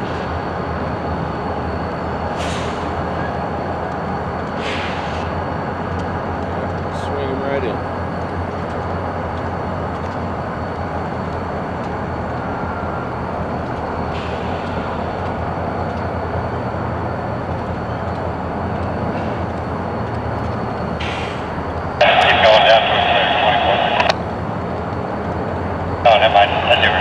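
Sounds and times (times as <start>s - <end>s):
diesel locomotive rumbling: 0.0s - 27.0s
freight cars moving: 0.0s - 27.0s.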